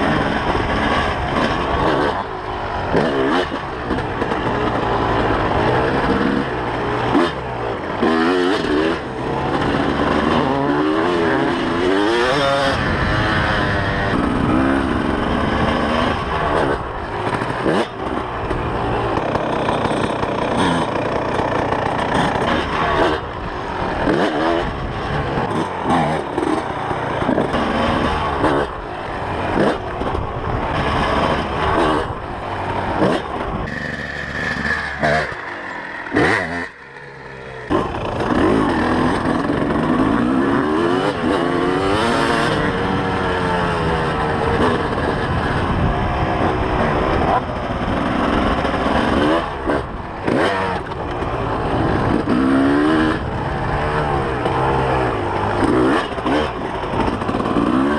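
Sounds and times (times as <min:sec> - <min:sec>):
two-stroke motorcycle engine revving: 0:00.0 - 0:57.9.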